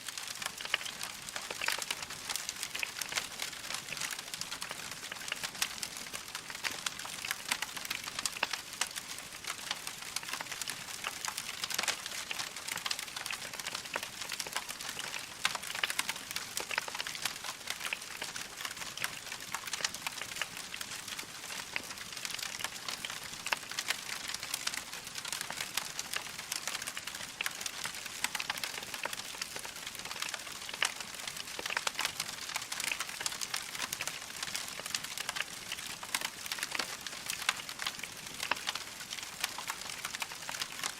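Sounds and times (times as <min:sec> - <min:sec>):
log fire crackling: 0:00.1 - 0:40.9.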